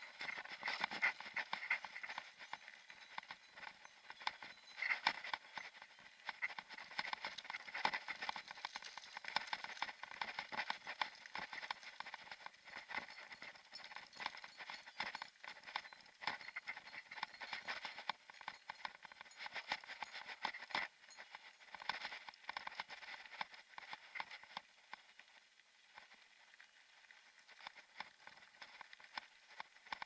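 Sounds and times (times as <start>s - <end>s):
bike rattling: 0.0s - 24.5s.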